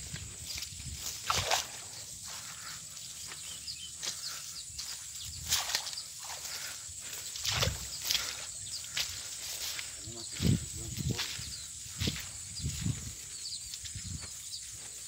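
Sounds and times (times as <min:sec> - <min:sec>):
footsteps through tall grass: 0:00.0 - 0:15.0.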